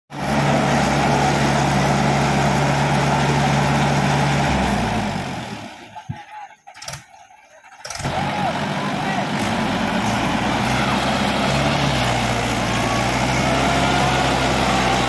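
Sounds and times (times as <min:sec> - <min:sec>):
tractor diesel engine running: 0:00.1 - 0:15.0.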